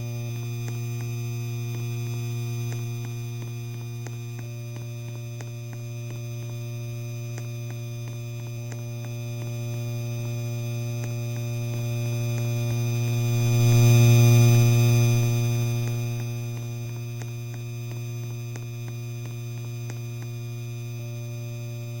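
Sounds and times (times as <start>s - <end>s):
electric fan motor humming: 0.0s - 22.0s.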